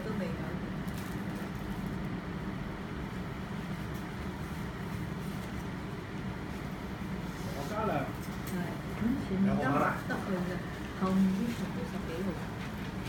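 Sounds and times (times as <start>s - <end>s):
low-pitched background hum: 0.0s - 13.0s.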